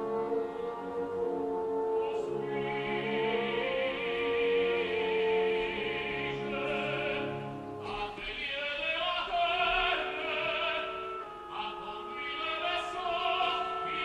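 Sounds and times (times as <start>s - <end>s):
operatic singing: 0.0s - 14.0s.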